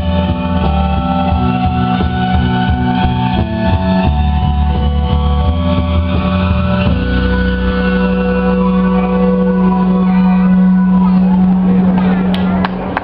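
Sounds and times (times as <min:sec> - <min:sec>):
rock band playing: 0:00.0 - 0:12.6.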